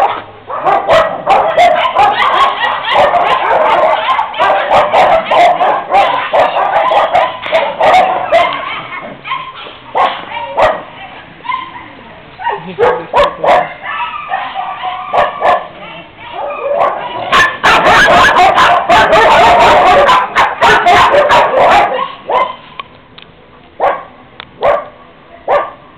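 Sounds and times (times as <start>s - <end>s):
dogs barking and yipping: 0.0s - 22.8s, 23.8s - 25.9s.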